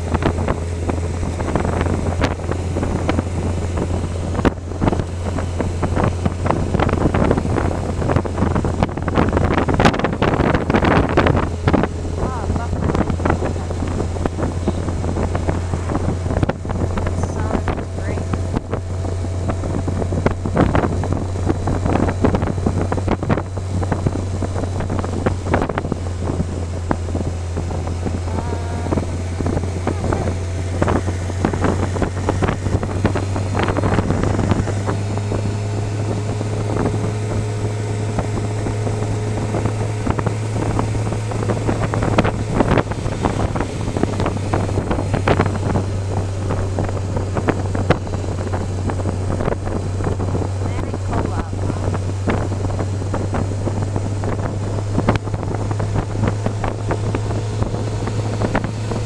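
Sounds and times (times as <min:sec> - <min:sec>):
motorcycle engine cruising: 0:00.0 - 0:59.0
wind buffeting microphone: 0:00.0 - 0:59.0.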